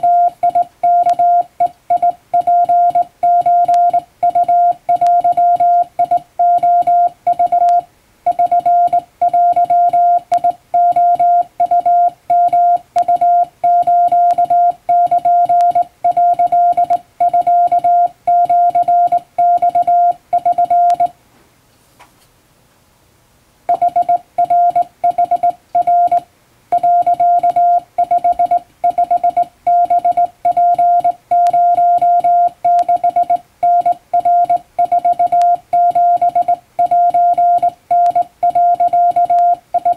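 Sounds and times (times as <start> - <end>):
morse code tone: 0.0 - 21.1, 23.7 - 39.9.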